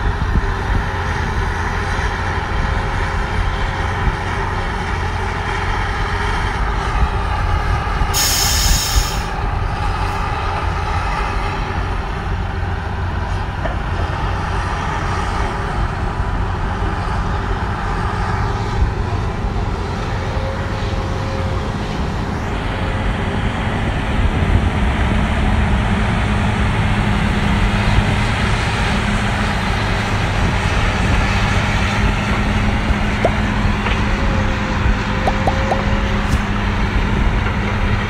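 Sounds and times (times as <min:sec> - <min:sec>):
heavy machine diesel engines running: 0:00.0 - 0:38.0.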